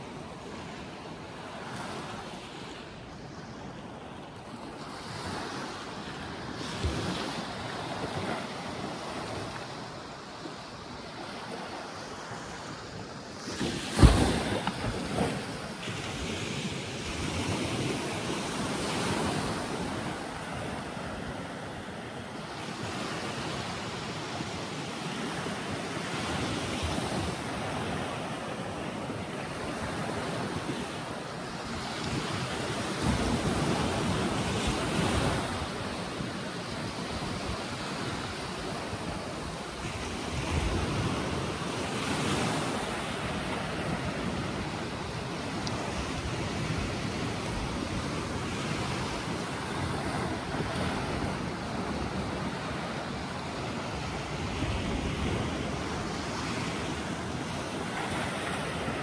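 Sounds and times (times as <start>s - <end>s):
waves washing up a beach: 0.0s - 59.0s.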